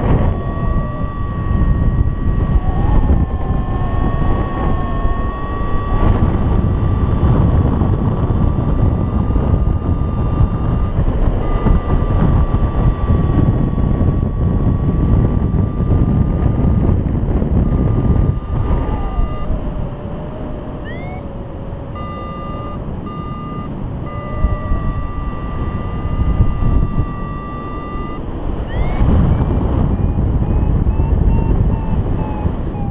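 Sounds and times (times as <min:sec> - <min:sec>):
low tone sliding downward: 0:00.0 - 0:32.9
variometer high electronic tone: 0:00.0 - 0:32.9
wind rushing over microphone: 0:00.0 - 0:32.9.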